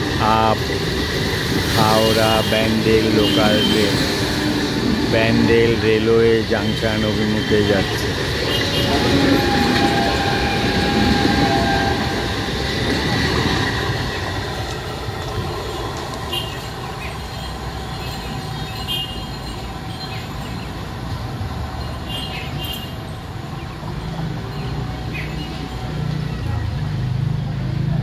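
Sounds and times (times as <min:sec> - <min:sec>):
electric train whine: 0:00.0 - 0:28.0
wheels rumbling on rails: 0:00.0 - 0:28.0.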